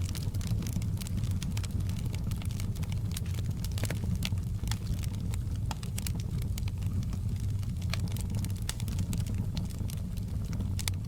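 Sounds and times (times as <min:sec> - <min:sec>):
low fire rumble: 0:00.0 - 0:11.0
wood fire crackling: 0:00.0 - 0:11.0.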